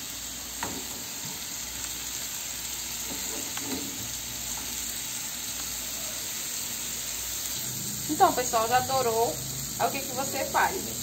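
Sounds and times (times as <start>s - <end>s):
bananas sizzling in frying pan: 0.0s - 11.0s.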